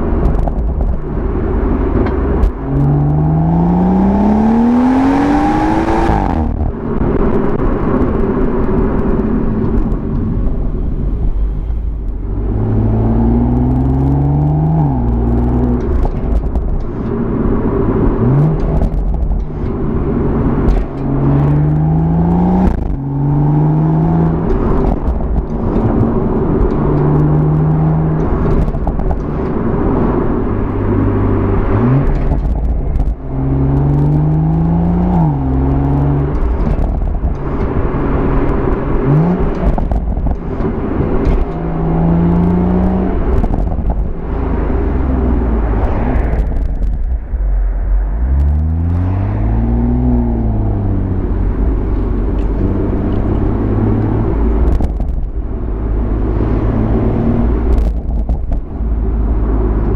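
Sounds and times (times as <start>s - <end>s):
car engine revving: 0.0s - 59.9s
low rumble of road noise: 0.0s - 59.9s.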